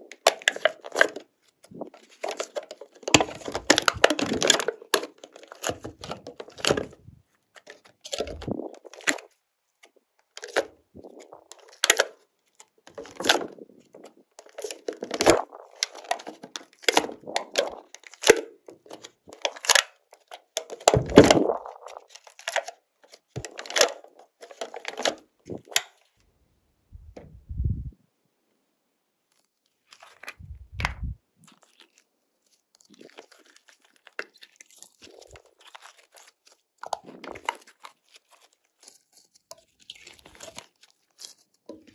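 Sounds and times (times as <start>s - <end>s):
slime crackling and popping: 0.1s - 7.0s, 7.6s - 26.1s, 29.3s - 41.9s.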